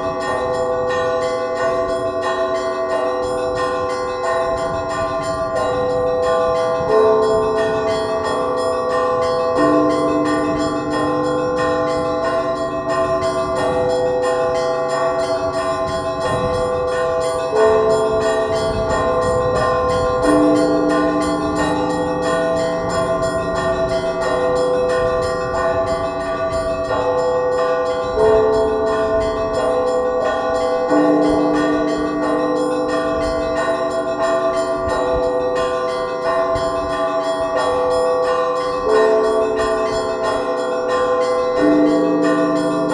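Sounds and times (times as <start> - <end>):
deep church bells: 0.0 - 42.9
small bells chiming: 0.0 - 42.9.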